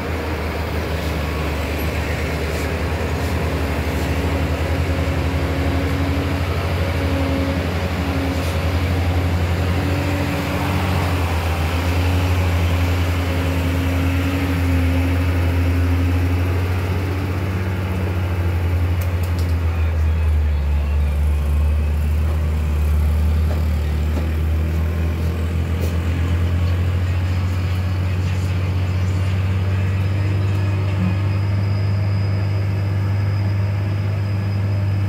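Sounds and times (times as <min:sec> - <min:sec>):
truck diesel engine labouring: 0:00.0 - 0:35.0.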